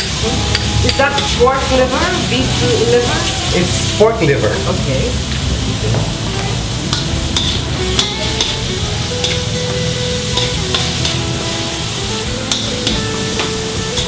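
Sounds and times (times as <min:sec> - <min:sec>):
metal spatula scraping wok: 0:00.0 - 0:05.9, 0:06.9 - 0:14.0
meat sizzling in oil: 0:00.0 - 0:14.0.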